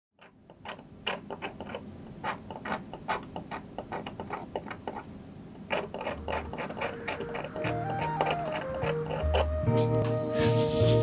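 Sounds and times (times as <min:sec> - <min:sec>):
steel point scratching metal plate: 0:00.2 - 0:05.1, 0:05.7 - 0:11.0.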